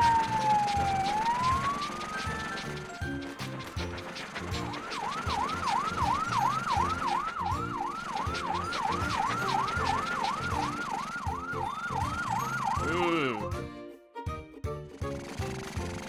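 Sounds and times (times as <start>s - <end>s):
cartoon fire truck siren wailing: 0.0s - 13.5s.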